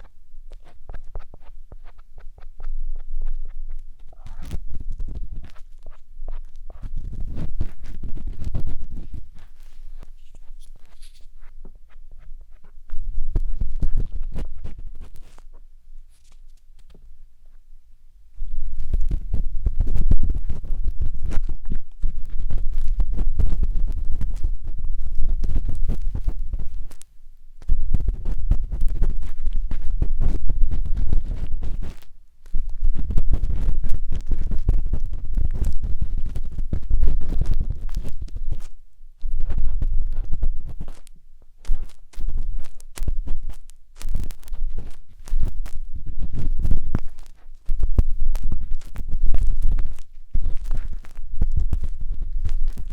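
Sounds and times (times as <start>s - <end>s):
matchstick scraping microphone: 0.0s - 17.0s, 18.6s - 52.9s.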